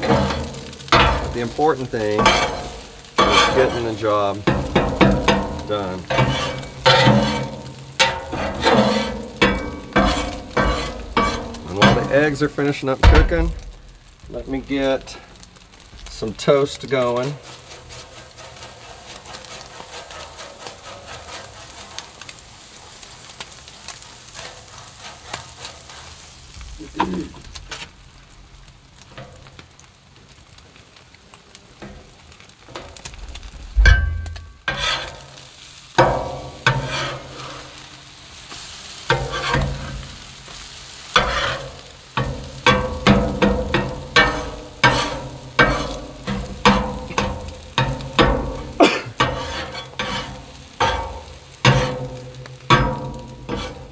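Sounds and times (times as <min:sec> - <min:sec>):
spatula scraping griddle: 0:00.0 - 0:13.8, 0:14.4 - 0:28.0, 0:31.8 - 0:53.9
food sizzling on griddle: 0:00.0 - 0:53.9.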